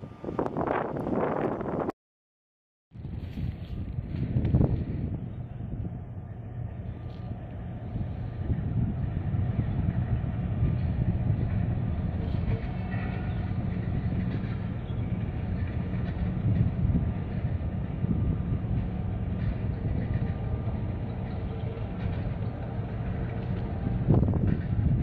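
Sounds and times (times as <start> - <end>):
low rumble: 2.9 - 25.0.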